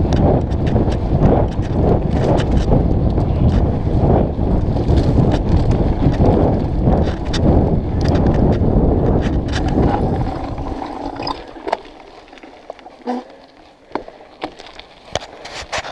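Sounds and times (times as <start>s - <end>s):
wind buffeting microphone: 0.0s - 13.1s
bike rattling and clicking: 0.0s - 15.9s.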